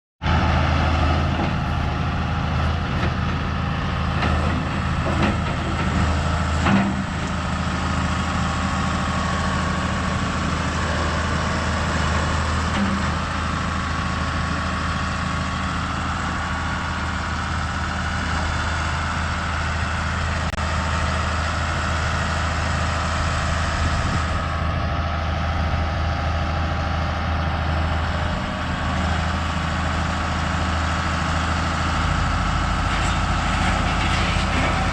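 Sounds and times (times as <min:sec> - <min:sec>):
heavy engine running: 0:00.2 - 0:34.9.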